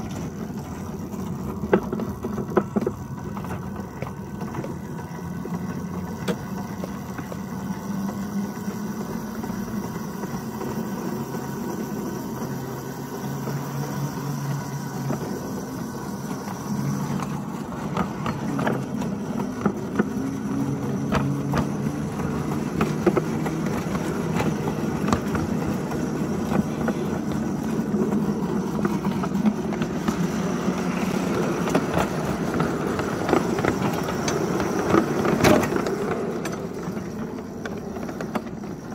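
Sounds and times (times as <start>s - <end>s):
locomotive motor humming: 0.0s - 38.9s
wheels clicking over rail joints: 0.0s - 38.9s.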